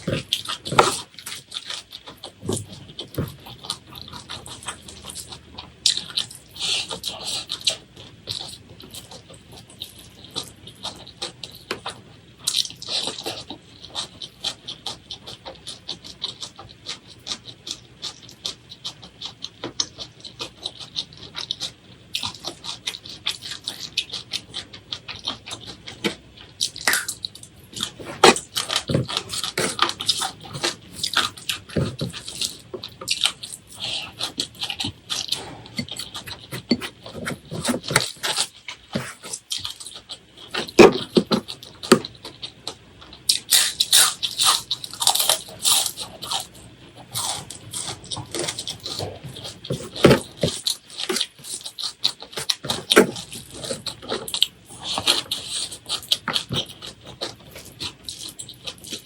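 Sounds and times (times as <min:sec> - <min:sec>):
wet chewing and mouth smacking: 0:00.0 - 0:59.0.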